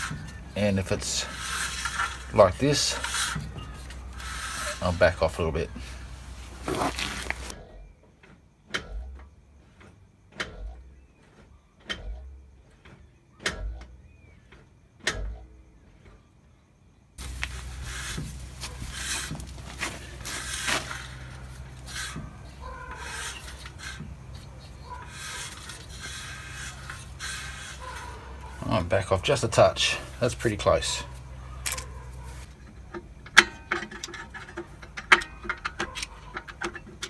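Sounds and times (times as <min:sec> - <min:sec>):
brake rotor scrape-knock: 0:00.0 - 0:15.4, 0:17.2 - 0:37.0
steady background noise: 0:00.0 - 0:37.0.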